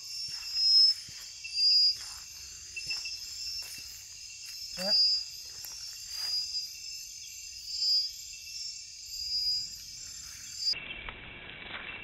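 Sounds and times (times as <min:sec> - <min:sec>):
insects trilling at night: 0:00.0 - 0:10.8.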